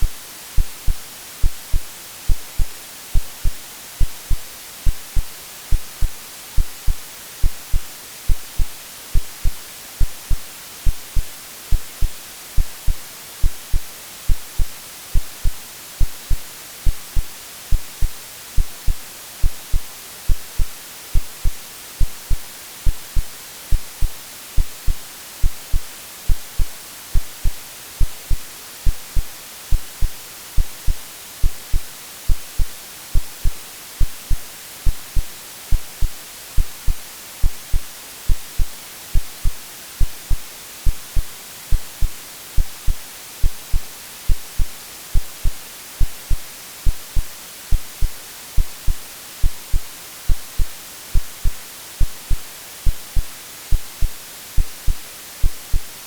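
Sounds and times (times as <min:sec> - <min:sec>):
heartbeat thumps: 0:00.0 - 0:55.9
white noise hiss: 0:00.0 - 0:56.0.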